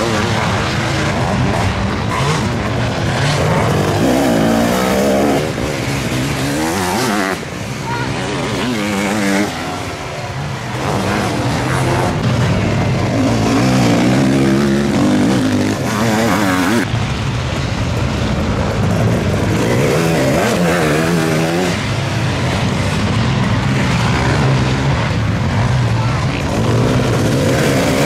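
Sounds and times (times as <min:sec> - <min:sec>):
motorcycle engines revving: 0:00.0 - 0:28.0.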